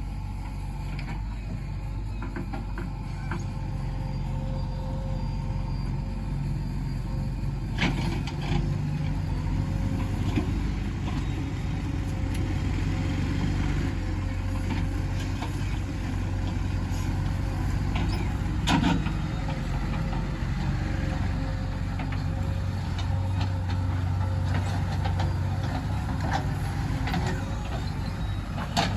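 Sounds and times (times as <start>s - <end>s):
backhoe diesel engine running: 0.0s - 28.9s.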